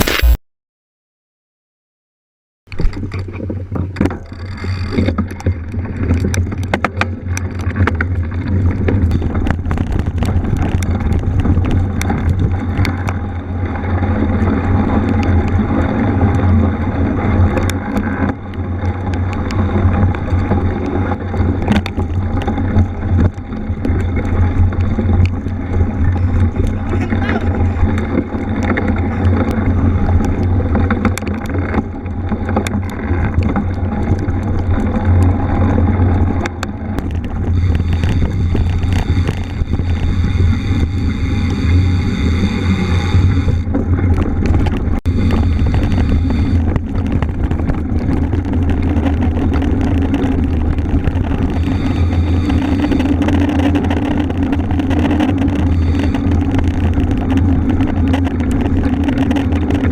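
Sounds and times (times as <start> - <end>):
bike clicks and rattles: 2.7 - 59.9
bike tyres on rough ground: 2.7 - 59.9
wind rumbling on microphone: 2.7 - 59.9.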